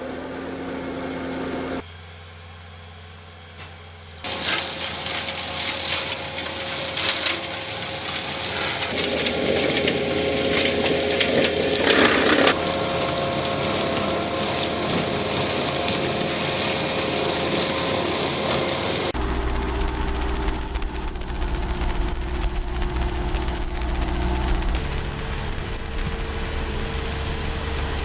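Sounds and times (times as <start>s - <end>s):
heavy machinery clattering: 4.3s - 28.0s.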